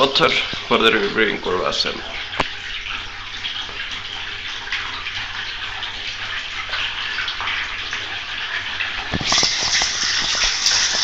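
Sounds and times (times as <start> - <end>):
water splashing from a hose: 0.0 - 11.0.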